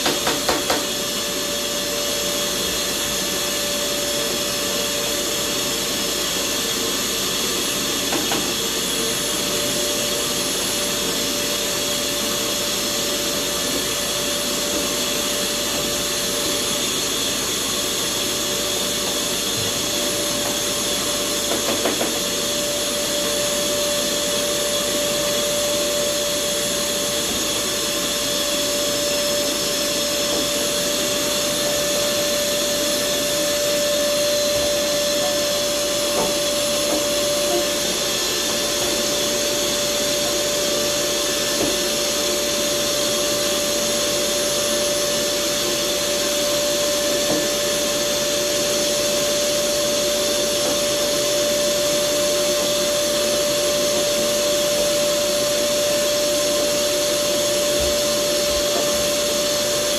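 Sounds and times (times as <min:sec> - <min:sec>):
vacuum cleaner whining: 0:00.0 - 0:59.9.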